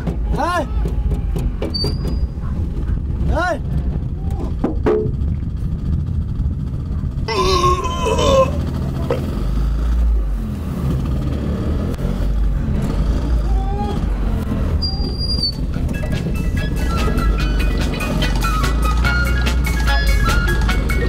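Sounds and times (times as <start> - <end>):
small engine rumbling: 0.0 - 21.0.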